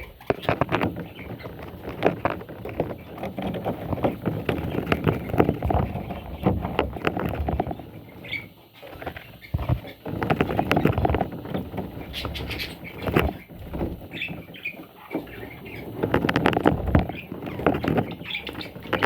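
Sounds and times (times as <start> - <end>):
scratching and knocking: 0.0 - 19.0.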